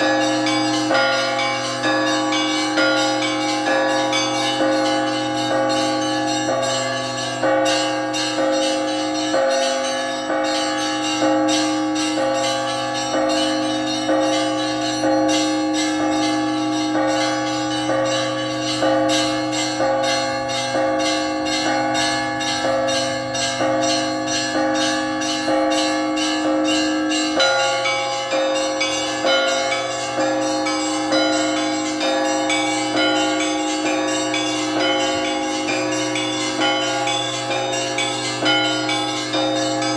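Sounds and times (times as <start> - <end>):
large bells ringing: 0.0 - 39.9
small church bells striking quickly: 0.0 - 39.9.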